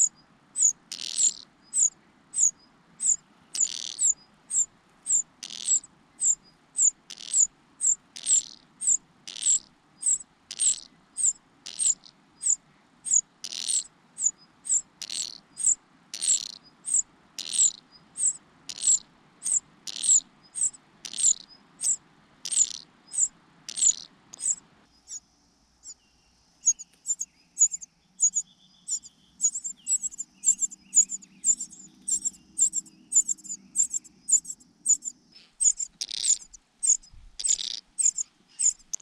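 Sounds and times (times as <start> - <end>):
nestlings begging calls: 0.0 - 25.2, 26.6 - 39.0.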